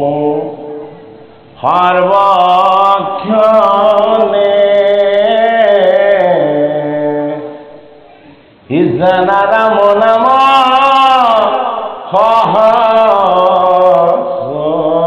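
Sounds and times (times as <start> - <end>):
man singing a devotional chant: 0.0 - 7.9, 8.6 - 15.0.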